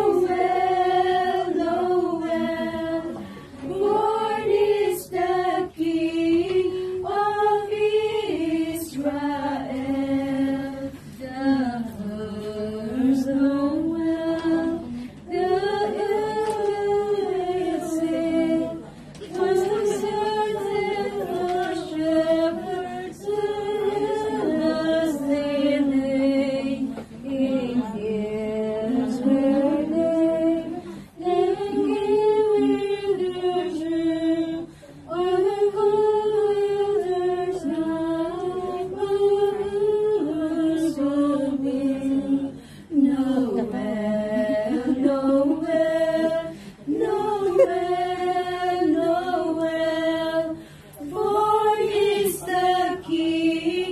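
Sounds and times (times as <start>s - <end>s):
women singing as a choir: 0.0s - 53.9s.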